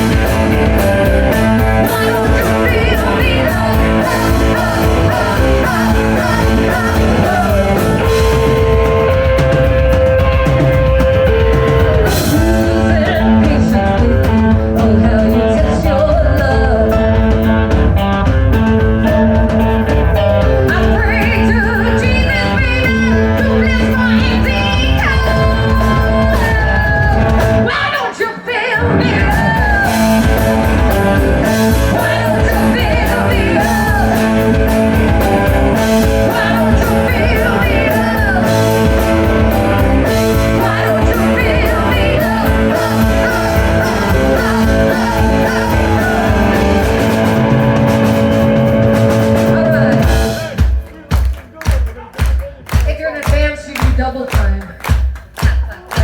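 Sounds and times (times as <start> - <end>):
lead vocalist singing: 0.0 - 17.6, 20.4 - 51.0
live rock band playing: 0.0 - 56.0.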